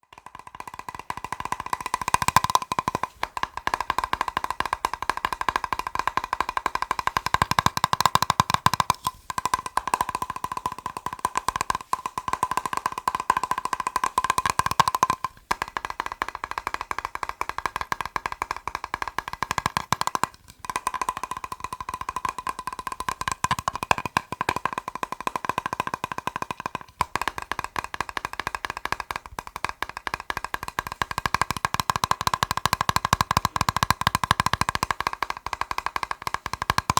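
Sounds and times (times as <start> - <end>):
fast tapping on a plastic box: 0.0 - 36.9.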